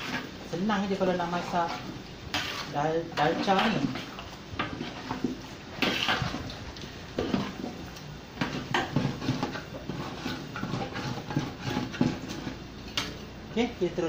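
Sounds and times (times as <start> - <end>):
metal spatula scraping a pot: 0.0 - 13.2.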